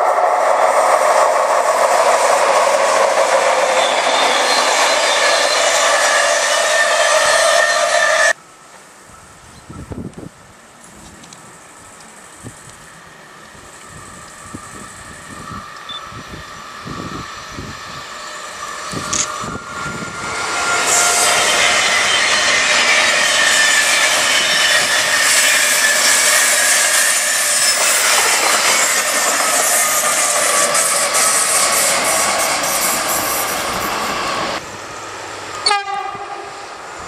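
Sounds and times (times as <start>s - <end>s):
train wheels rushing on rails: 0.0s - 8.4s, 10.0s - 37.0s.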